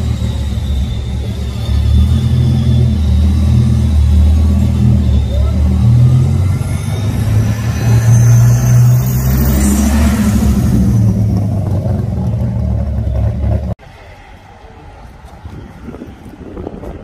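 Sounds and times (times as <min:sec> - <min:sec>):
car engine revving: 0:00.0 - 0:13.8.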